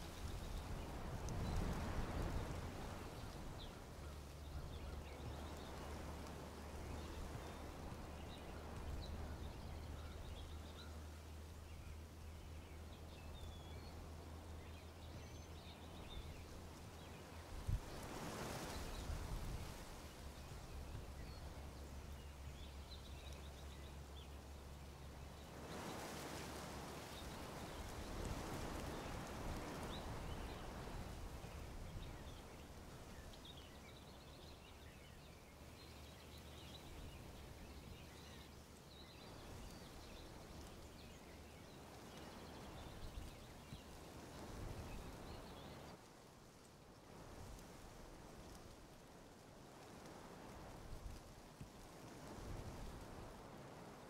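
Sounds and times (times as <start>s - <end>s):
wind gusting through leaves: 0.0s - 54.0s.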